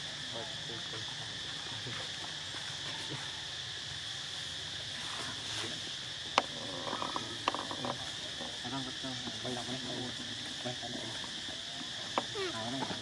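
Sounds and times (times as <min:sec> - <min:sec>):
forest insects chorus: 0:00.0 - 0:13.0.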